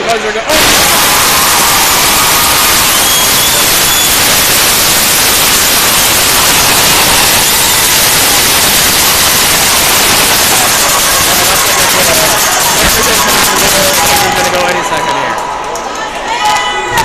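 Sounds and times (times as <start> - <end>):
loud static hiss: 0.4 - 14.7.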